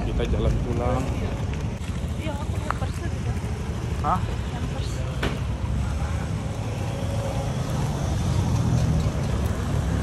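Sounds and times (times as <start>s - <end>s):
motorbike and car traffic: 0.0s - 10.0s.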